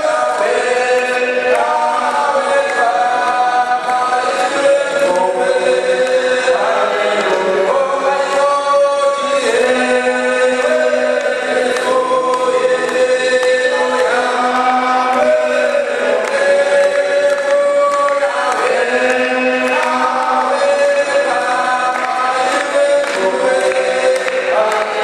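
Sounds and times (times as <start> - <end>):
man singing into a microphone: 0.0 - 25.0
men's choir singing: 0.0 - 25.0.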